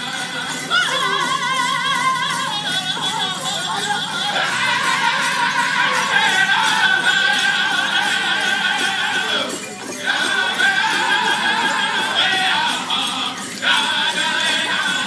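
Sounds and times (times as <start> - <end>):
bells jingling: 0.0 - 15.0
group singing in high voices: 0.0 - 15.0
steady drum beat: 0.0 - 15.0.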